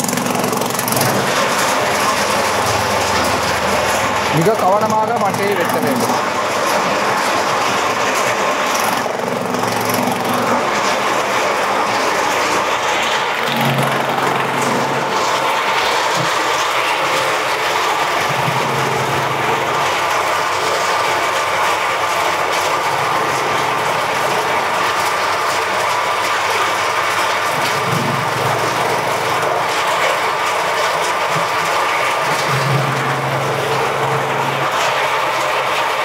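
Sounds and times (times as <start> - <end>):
machine chopping coconut husks: 0.0 - 36.0.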